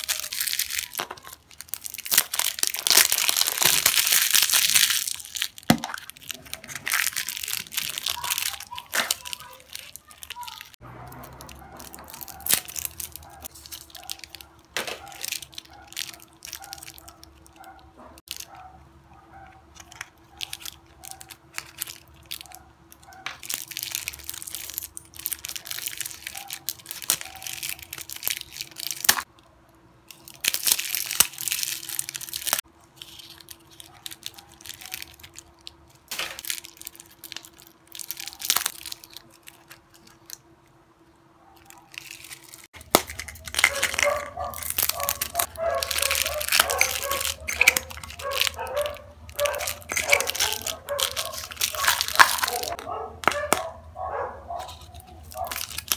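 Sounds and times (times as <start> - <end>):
plastic wrapping crinkling and tearing: 0.0 - 18.7, 19.7 - 29.5, 30.1 - 40.8, 41.5 - 55.9.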